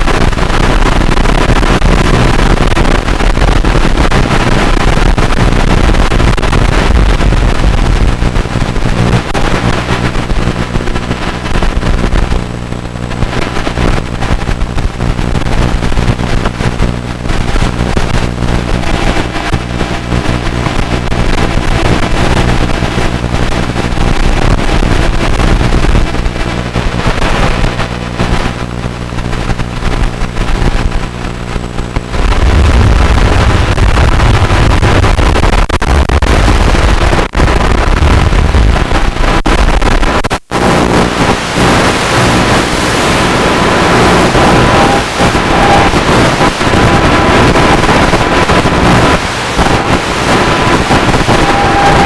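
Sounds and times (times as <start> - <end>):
rough radio static: 0.0 - 52.0
video link buzz and hiss: 0.0 - 52.0.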